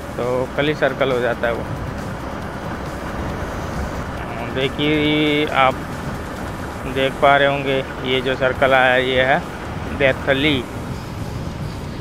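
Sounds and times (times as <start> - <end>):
motorcycle running: 0.0 - 12.0
wind rush: 0.0 - 12.0.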